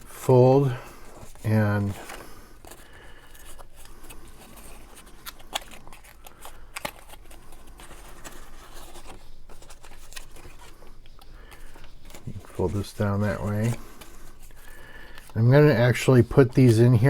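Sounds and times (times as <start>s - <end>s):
cardstock being folded and creased: 0.0s - 17.0s
paper rustling: 0.0s - 17.0s
sharp paper crackles: 0.0s - 17.0s.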